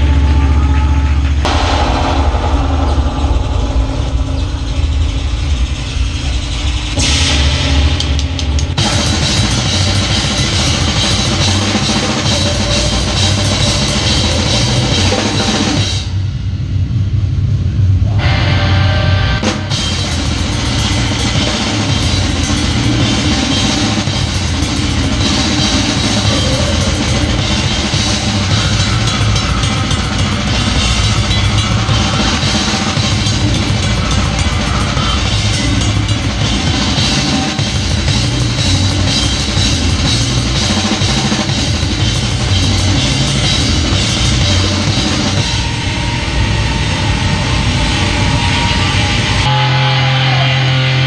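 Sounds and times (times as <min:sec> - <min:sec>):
heavy drumming: 0:00.0 - 0:16.4, 0:18.2 - 0:51.0
low distorted bass: 0:00.0 - 0:51.0
low sustained drone: 0:00.0 - 0:51.0
crashing cymbals: 0:01.4 - 0:16.7, 0:18.2 - 0:51.0.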